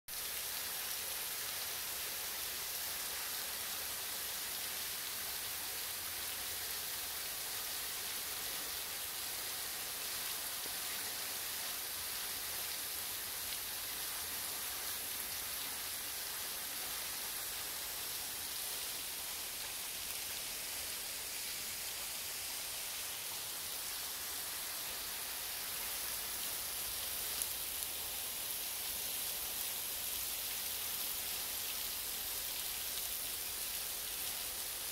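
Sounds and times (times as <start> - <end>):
waterfall hiss: 0.1 - 34.9.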